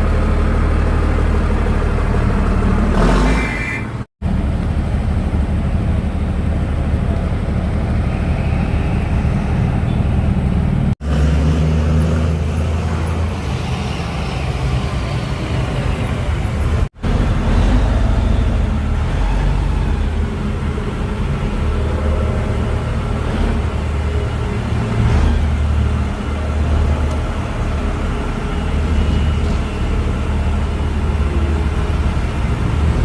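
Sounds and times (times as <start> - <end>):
diesel truck engines rumbling: 0.0 - 33.0.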